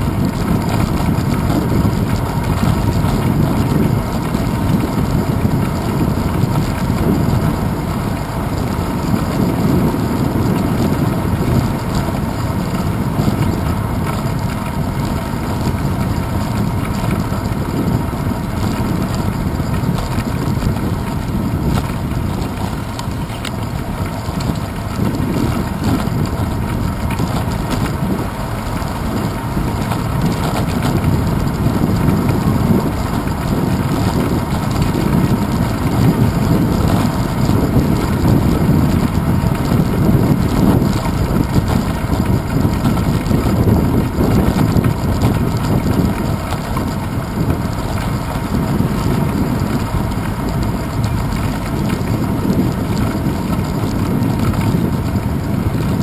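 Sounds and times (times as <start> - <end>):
tyres rumbling over paving: 0.0 - 56.0
wind on microphone: 0.0 - 56.0.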